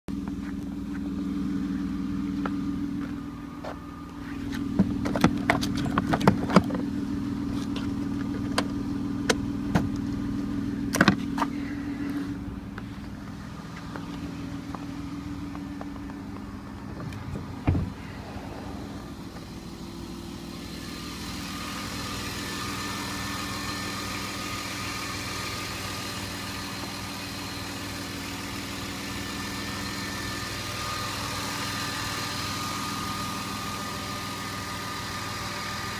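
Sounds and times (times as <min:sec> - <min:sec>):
car engine idling: 0:00.1 - 0:35.9.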